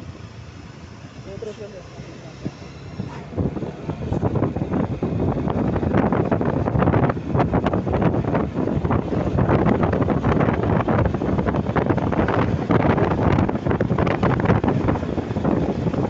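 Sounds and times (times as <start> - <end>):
vehicle rumble: 0.0 - 16.0
wind buffeting microphone: 2.4 - 16.0.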